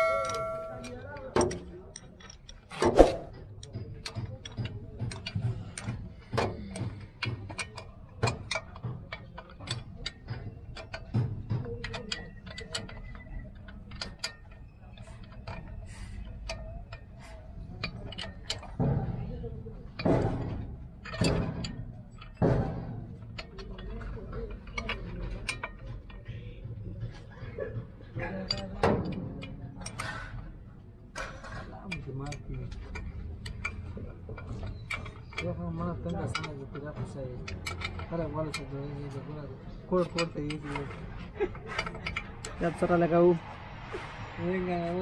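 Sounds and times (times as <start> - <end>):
metal spanners clinking on bolt: 0.0 - 2.8, 3.4 - 30.4, 31.1 - 43.0.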